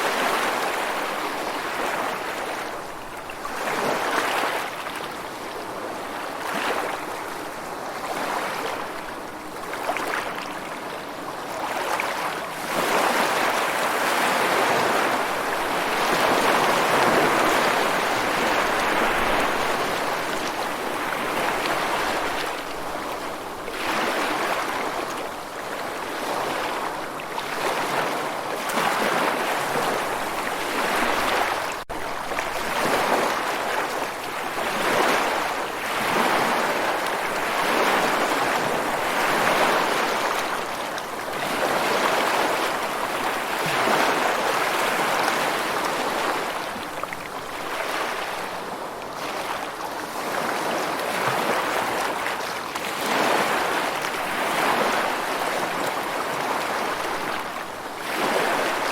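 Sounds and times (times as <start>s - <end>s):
rushing water surging: 0.0s - 58.9s.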